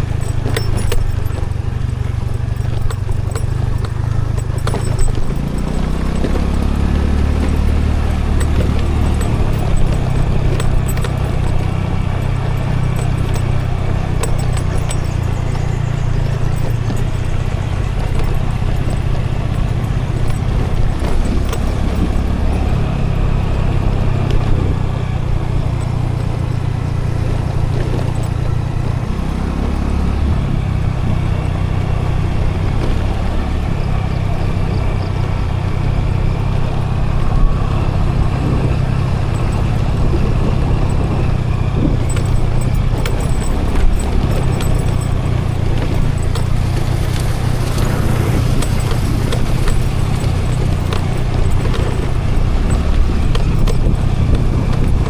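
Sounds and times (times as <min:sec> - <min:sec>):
road and wind rumble: 0:00.0 - 0:55.0
scooter engine running: 0:00.0 - 0:55.0.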